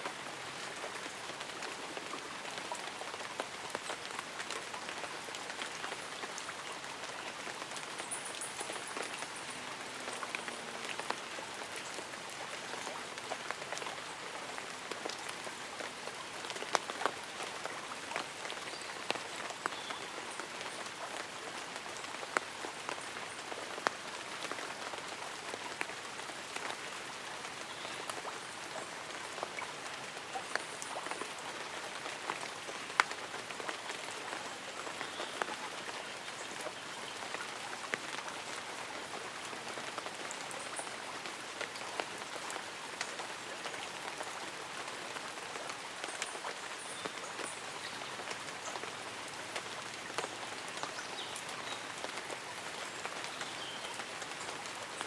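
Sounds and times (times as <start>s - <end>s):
light rain on leaves and umbrella: 0.0s - 55.0s.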